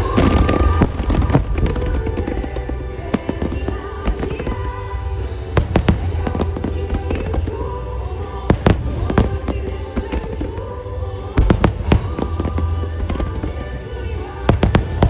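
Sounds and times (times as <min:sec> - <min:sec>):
fireworks bursting: 0:00.0 - 0:15.0
pop music over loudspeakers: 0:00.0 - 0:15.0.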